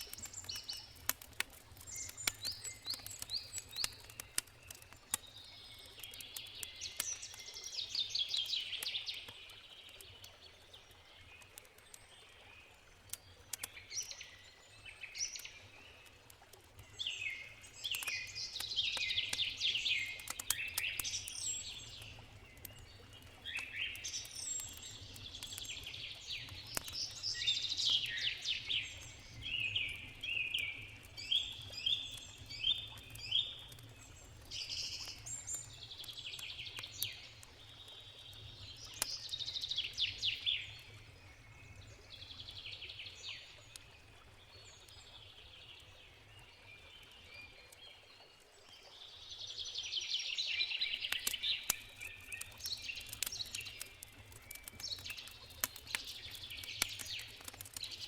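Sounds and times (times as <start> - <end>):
campfire popping and crackling: 0.0 - 46.2, 50.7 - 58.0
songbird singing: 1.8 - 10.0, 16.8 - 43.8, 45.1 - 58.0.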